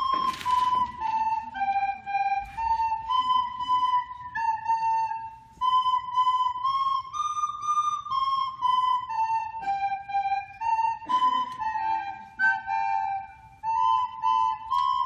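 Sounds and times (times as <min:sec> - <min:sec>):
woodwind instruments playing melody: 0:00.0 - 0:15.0.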